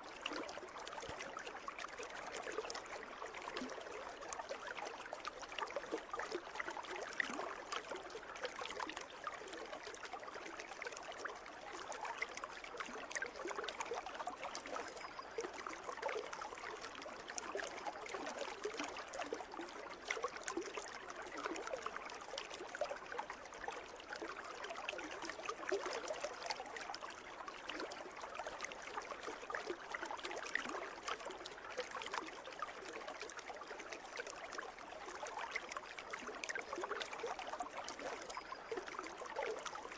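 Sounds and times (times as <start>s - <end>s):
pool water trickling and splashing: 0.0s - 39.9s.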